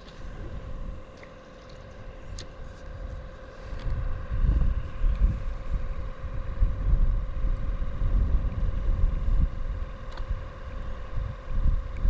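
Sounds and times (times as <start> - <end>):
wind buffeting microphone: 0.0 - 1.2, 2.0 - 12.0
faint steady hum: 0.0 - 12.0.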